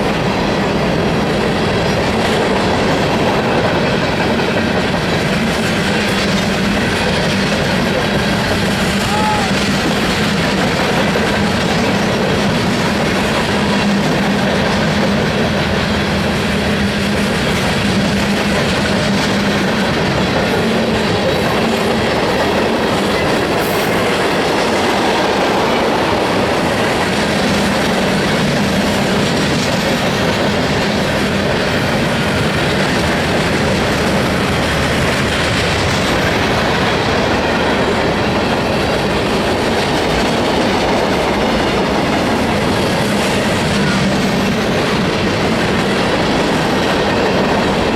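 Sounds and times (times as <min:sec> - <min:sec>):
freight train wheels on rail: 0:00.0 - 0:47.9.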